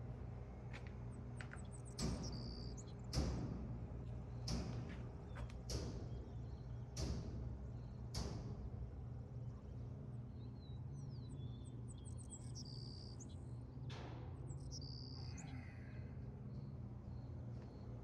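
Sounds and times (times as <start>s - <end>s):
low hum: 0.0s - 18.0s
small birds chirping: 1.1s - 3.2s, 4.0s - 8.4s, 9.3s - 18.0s.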